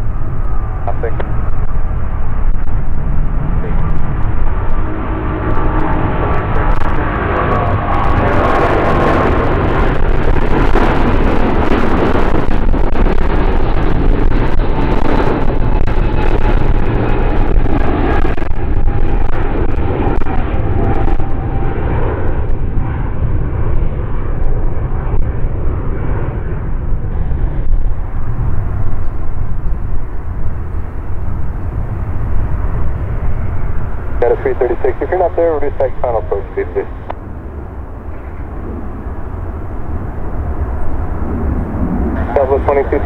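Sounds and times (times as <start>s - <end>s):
jet engine roar: 0.0s - 43.0s.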